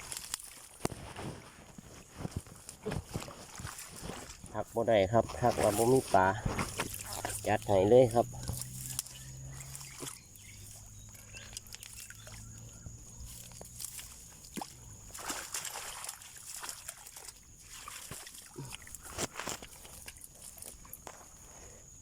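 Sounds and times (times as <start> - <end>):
shallow water sloshing and splashing: 0.0 - 21.6.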